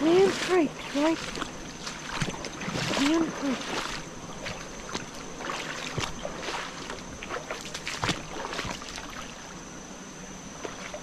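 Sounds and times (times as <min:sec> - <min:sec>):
short irregular splashes and drips: 0:00.0 - 0:09.5
shallow creek water trickling: 0:00.0 - 0:09.8.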